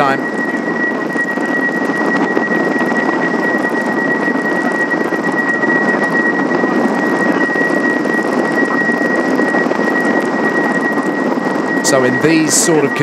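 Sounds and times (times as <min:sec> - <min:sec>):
helicopter turbine and rotor: 0:00.0 - 0:13.0.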